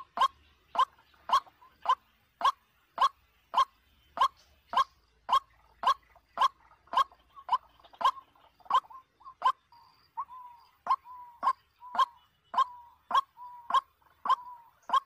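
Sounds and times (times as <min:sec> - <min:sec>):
waterhen sharp calls: 0:00.0 - 0:15.0.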